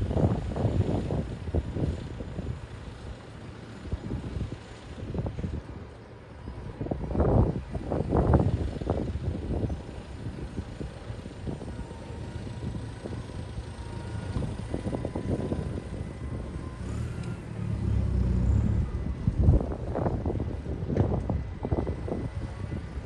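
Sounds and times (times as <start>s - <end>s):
wind buffeting microphone: 0.0s - 5.9s, 6.5s - 23.0s
tractor engines driving past: 0.0s - 23.0s.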